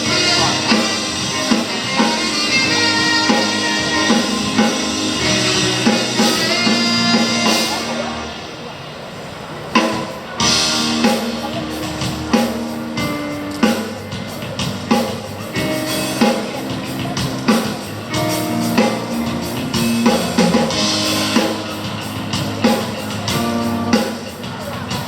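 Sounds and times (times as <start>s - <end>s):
guitar chords: 0.0s - 8.6s, 10.4s - 24.4s
drum kit: 0.0s - 8.7s, 9.6s - 25.0s.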